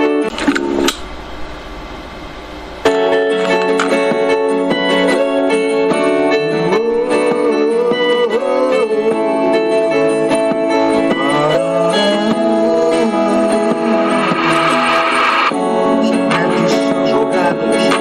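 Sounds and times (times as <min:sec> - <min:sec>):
guitar instrumental music: 0:00.0 - 0:18.0.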